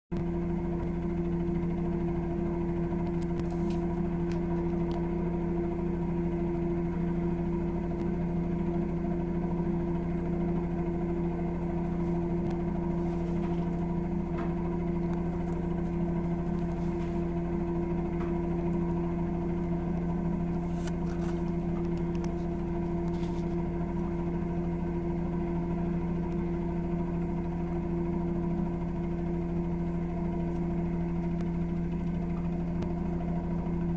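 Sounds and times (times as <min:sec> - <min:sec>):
helicopter engine and rotor: 0:00.2 - 0:33.9.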